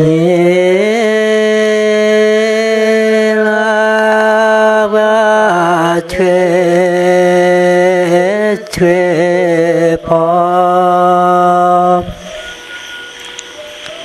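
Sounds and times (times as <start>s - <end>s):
man chanting in long notes: 0.0s - 12.6s.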